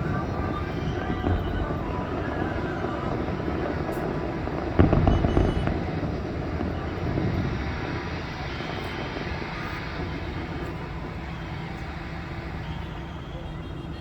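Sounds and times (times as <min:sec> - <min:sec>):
rumbling echo: 0:00.0 - 0:12.6
fireworks bang: 0:00.0 - 0:14.0
fireworks crackling: 0:00.0 - 0:14.0.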